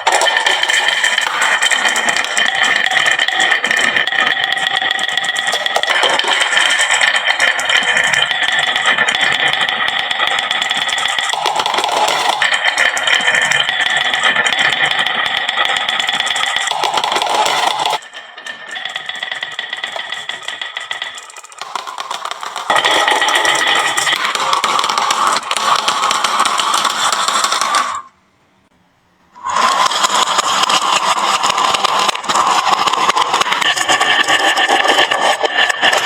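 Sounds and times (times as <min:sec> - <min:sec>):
marbles rattling down wooden track: 0:00.0 - 0:28.1, 0:29.4 - 0:36.0.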